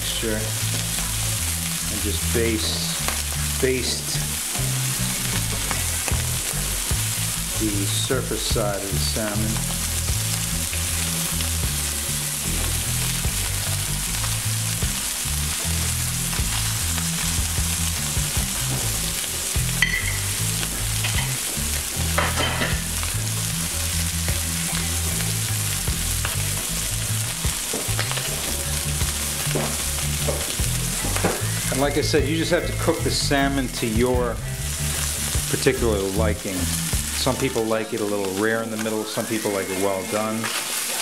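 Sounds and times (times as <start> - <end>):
fish sizzling in hot oil: 0.0 - 41.0.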